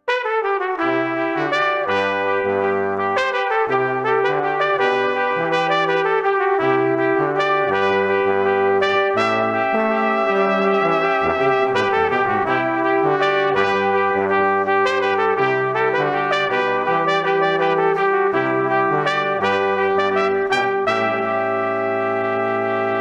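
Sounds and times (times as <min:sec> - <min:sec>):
brass quartet playing: 0:00.1 - 0:23.0.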